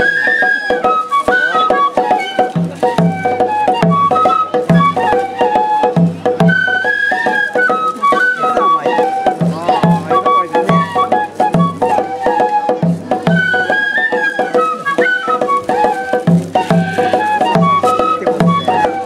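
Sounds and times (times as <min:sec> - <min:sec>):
flute melody: 0:00.0 - 0:19.0
low regular drum beat: 0:01.2 - 0:19.0
drum strikes: 0:01.5 - 0:07.8, 0:08.4 - 0:19.0.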